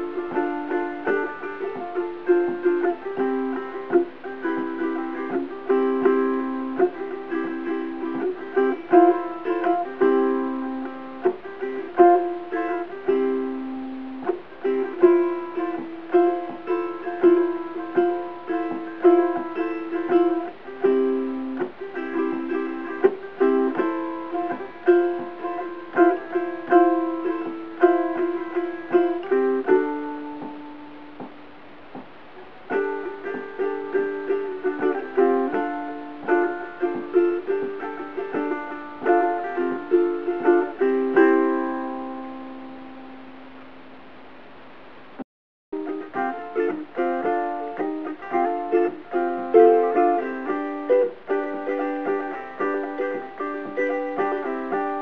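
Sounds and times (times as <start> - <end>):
ukulele strumming chords: 0.0 - 45.2, 45.8 - 55.0.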